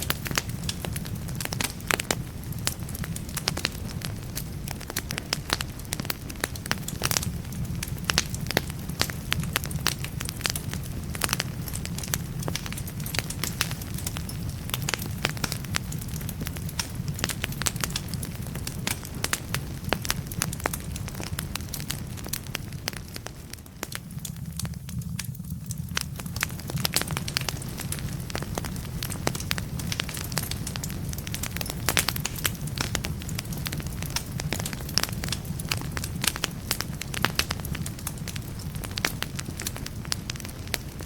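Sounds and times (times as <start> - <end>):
logs crackling and popping: 0.0 - 41.0
low rumble of flames: 0.0 - 41.0.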